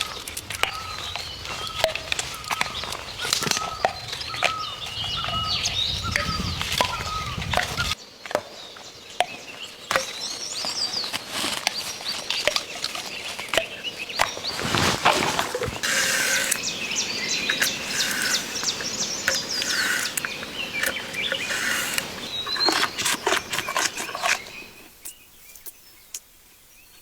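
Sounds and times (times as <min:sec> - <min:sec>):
birds chirping: 0:00.0 - 0:27.0
rustling leaves: 0:00.0 - 0:27.0.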